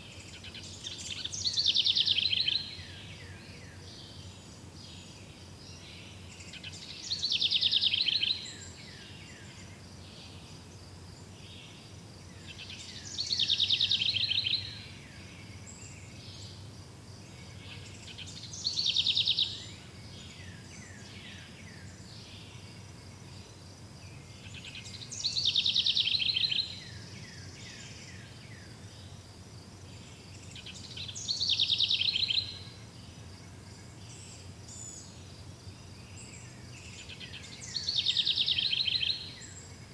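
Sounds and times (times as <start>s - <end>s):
songbird trilling song: 0.0s - 29.2s, 29.8s - 39.9s
faint forest hiss: 0.0s - 39.9s
soft insect chirping: 0.0s - 39.9s.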